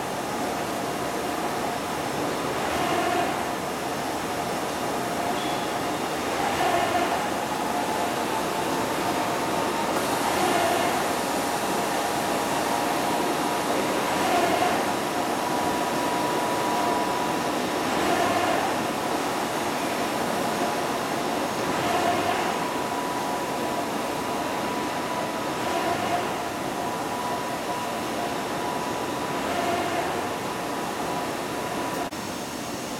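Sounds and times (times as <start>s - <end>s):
printer machine hum: 0.0s - 32.9s.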